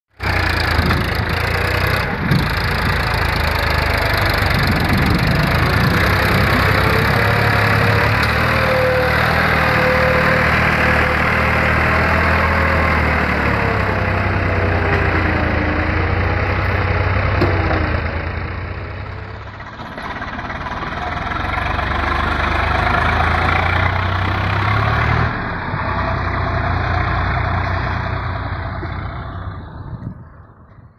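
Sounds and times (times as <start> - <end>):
diesel tractor engine running: 0.1 - 30.9.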